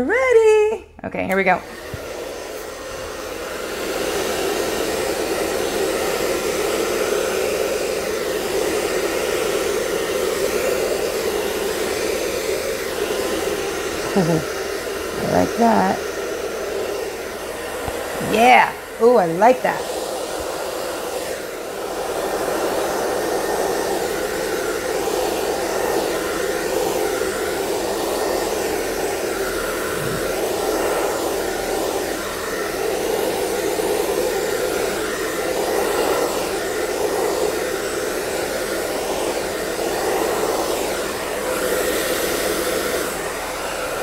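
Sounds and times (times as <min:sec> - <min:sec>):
hair dryer blowing: 0:00.0 - 0:44.0.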